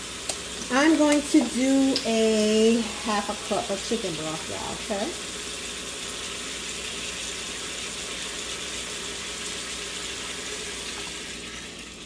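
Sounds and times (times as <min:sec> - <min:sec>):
shrimp sizzling in a pot: 0:00.0 - 0:11.8.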